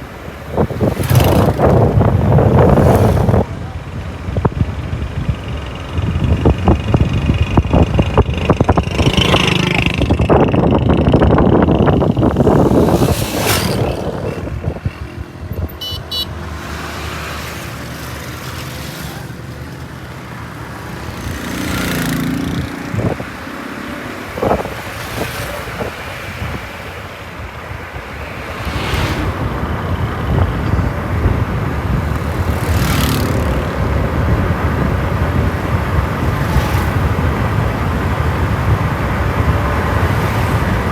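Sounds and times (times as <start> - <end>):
vehicles passing with rumble: 0.0 - 40.9.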